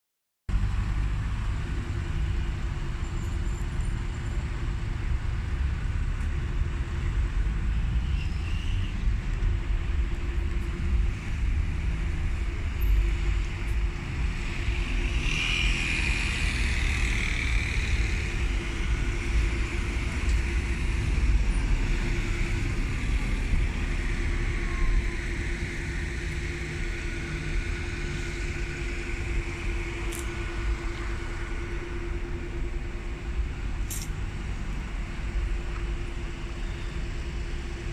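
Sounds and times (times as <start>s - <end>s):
street traffic rumble: 0.5s - 37.9s.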